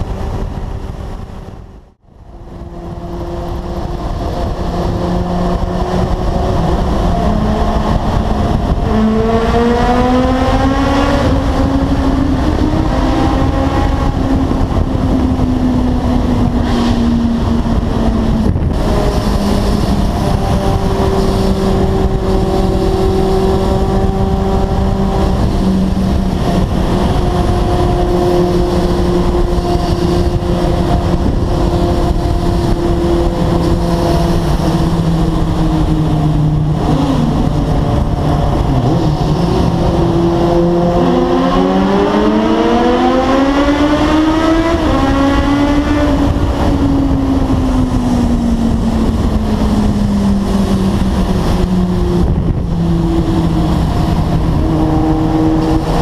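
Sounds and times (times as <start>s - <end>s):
motorcycle engine in tunnel: 0.0s - 56.0s.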